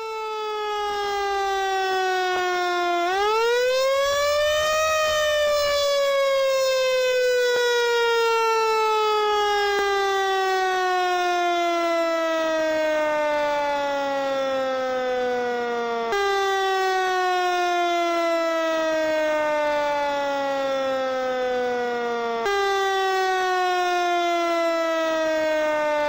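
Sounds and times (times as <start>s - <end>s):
fire truck siren wailing: 0.0s - 26.0s.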